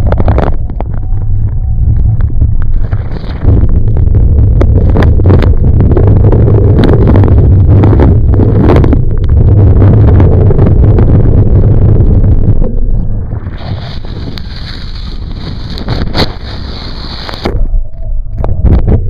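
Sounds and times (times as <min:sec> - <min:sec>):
wind buffeting camera: 0:00.0 - 0:19.0.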